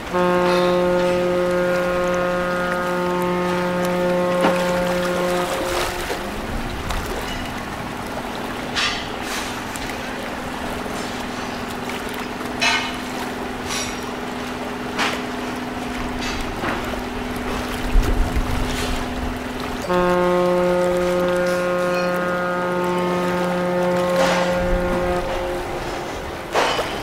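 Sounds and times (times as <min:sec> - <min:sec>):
boat engine humming: 0:00.0 - 0:27.0
water and wind noise: 0:00.0 - 0:27.0
short sharp splashes: 0:00.1 - 0:27.0.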